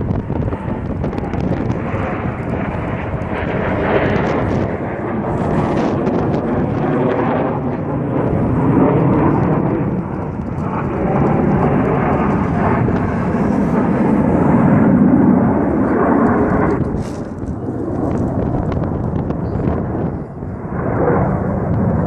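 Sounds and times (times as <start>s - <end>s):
jet roar: 0.0s - 22.0s
wind buffeting microphone: 0.0s - 22.0s.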